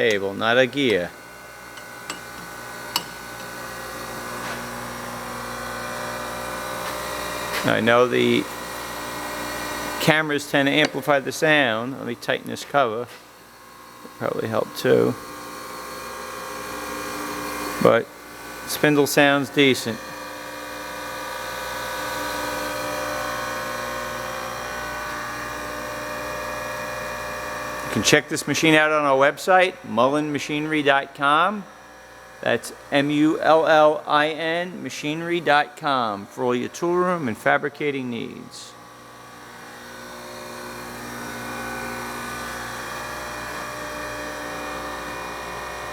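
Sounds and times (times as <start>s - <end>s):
grinder spindle humming and whining: 0.0s - 45.9s.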